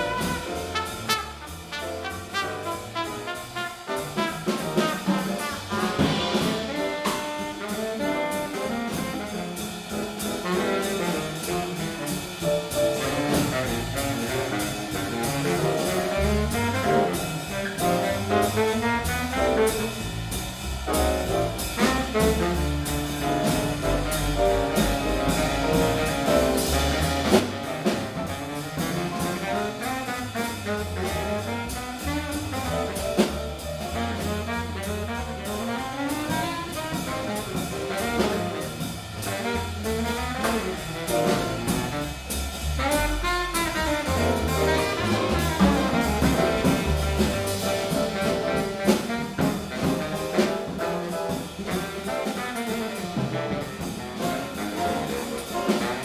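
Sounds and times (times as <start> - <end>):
jazz quintet playing: 0.0 - 56.0.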